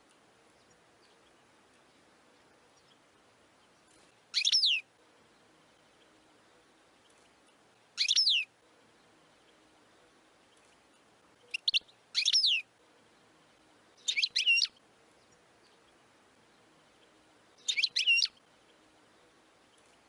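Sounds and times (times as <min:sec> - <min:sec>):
bird singing high twittery notes: 0:00.1 - 0:20.0.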